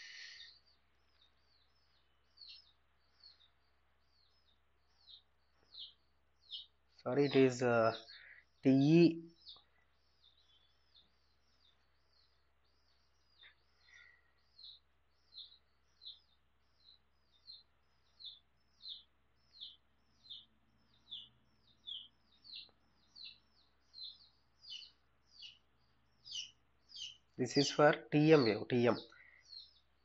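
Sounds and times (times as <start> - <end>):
small bird chirping: 0.0 - 30.0.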